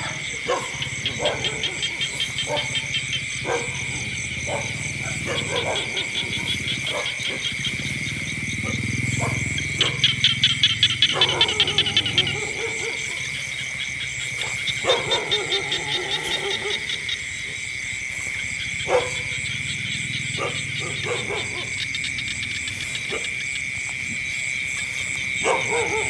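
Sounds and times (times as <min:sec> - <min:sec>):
insects droning: 0:00.0 - 0:26.0
rapid pulsed frog calls: 0:00.0 - 0:26.0.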